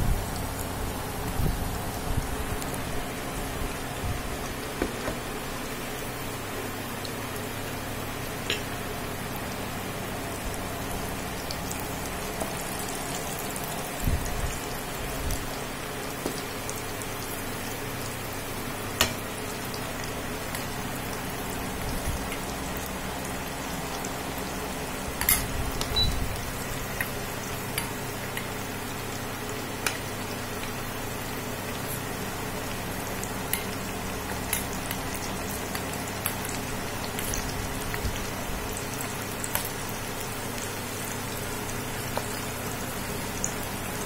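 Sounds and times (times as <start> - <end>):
food sizzling in hot oil: 0.1 - 44.0.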